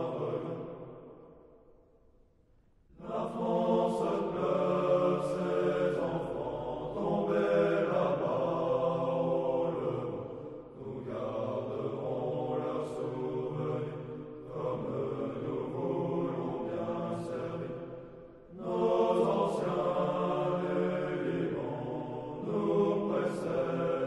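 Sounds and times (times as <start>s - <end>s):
men singing in unison: 3.0s - 10.2s, 10.8s - 17.7s, 18.6s - 24.0s.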